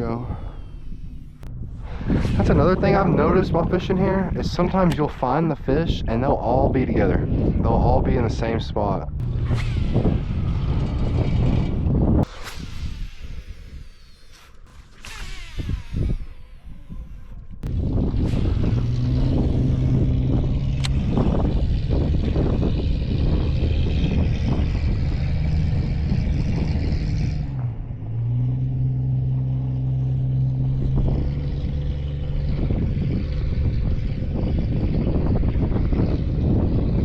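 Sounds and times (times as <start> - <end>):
small motor humming: 0.0 - 3.1, 9.1 - 37.0
wind buffeting microphone: 0.0 - 37.0.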